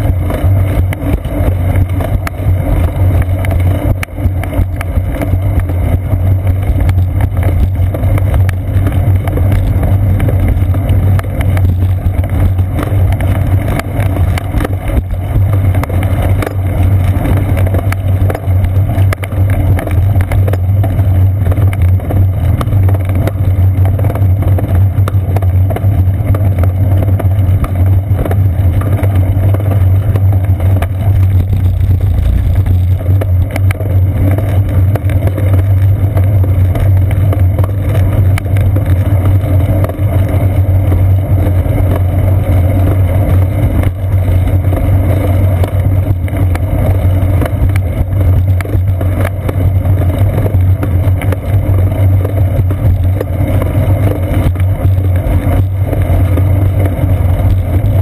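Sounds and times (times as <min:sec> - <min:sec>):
bicycle tyre rumble on concrete: 0:00.0 - 0:58.0
wind on camera: 0:00.0 - 0:58.0.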